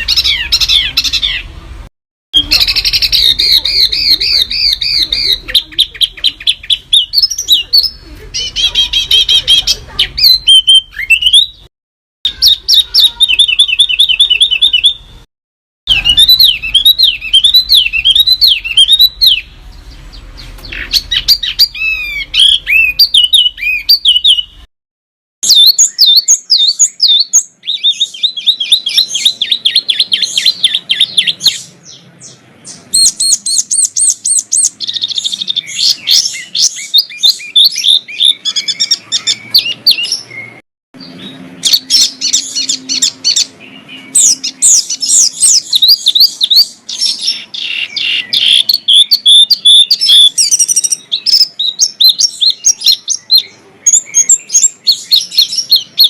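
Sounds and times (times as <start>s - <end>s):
songbirds chirping and trilling: 0.0s - 11.7s, 12.3s - 15.3s, 15.9s - 24.7s, 25.4s - 56.0s.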